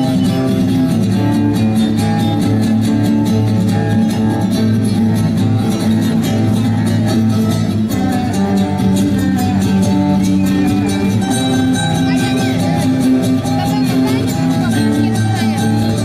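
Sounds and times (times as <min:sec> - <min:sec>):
electric guitar: 0:00.0 - 0:16.0
sustained bass notes: 0:00.0 - 0:16.0.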